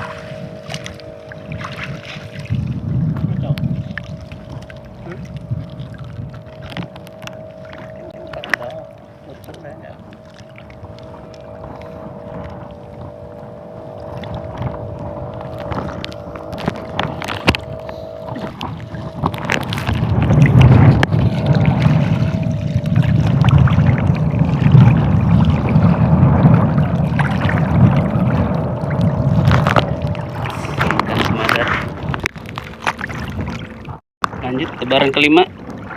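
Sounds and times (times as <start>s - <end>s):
faint steady hum: 0.0s - 32.3s
wind rumbling on microphone: 0.0s - 35.9s.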